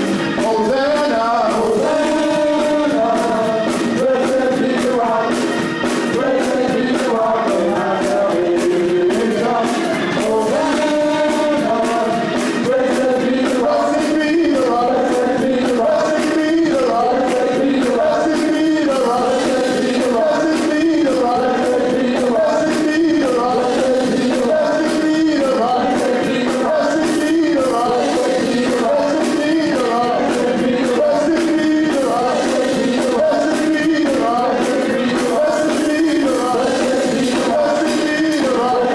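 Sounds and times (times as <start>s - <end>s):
band playing: 0.0s - 38.9s
voices singing: 0.0s - 38.9s.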